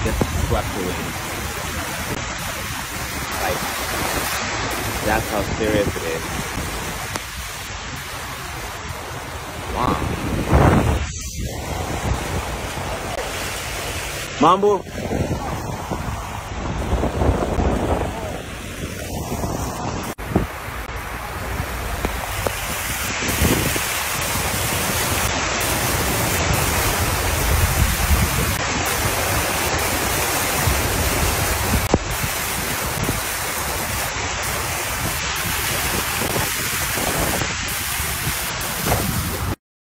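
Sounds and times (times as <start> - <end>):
car splashing through floodwater: 0.0 - 39.6.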